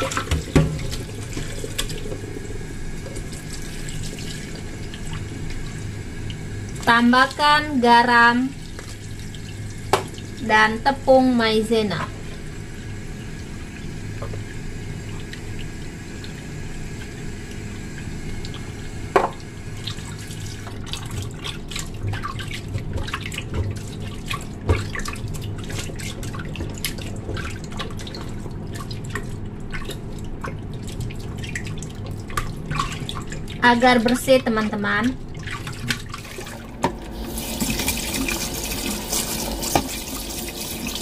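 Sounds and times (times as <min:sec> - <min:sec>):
water trickling: 0:00.0 - 0:10.6, 0:13.2 - 0:41.0.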